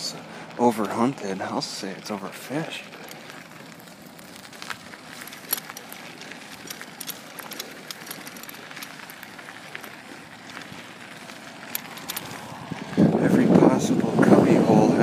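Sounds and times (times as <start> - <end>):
light clicks and crackles: 0.0 - 13.2.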